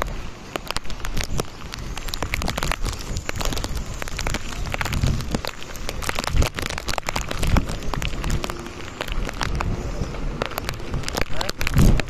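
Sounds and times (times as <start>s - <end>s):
heavy rain patter: 0.0s - 12.0s
wind buffeting microphone: 0.0s - 12.0s.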